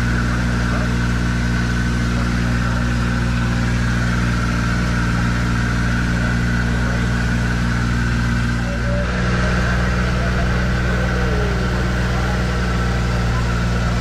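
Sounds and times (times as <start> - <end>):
constant high whine: 0.0 - 14.0
vehicle engine droning: 0.0 - 14.0.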